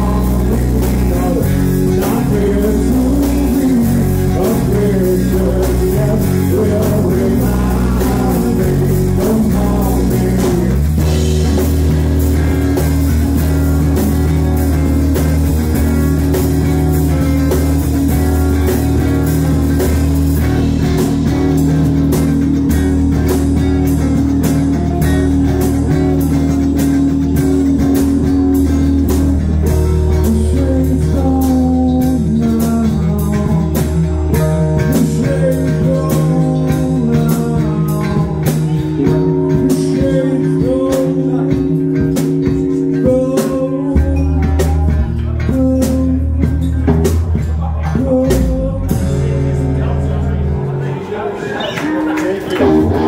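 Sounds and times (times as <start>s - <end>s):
bass guitar: 0.0s - 53.0s
drums: 0.0s - 53.0s
electric guitar: 0.0s - 53.0s.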